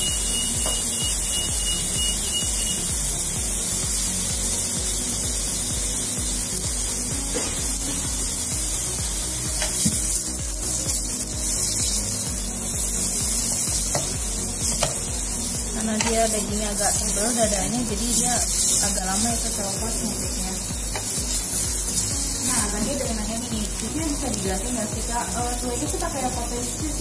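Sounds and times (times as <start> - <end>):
background music: 0.0 - 27.0
chicken sizzling on a grill pan: 0.0 - 27.0.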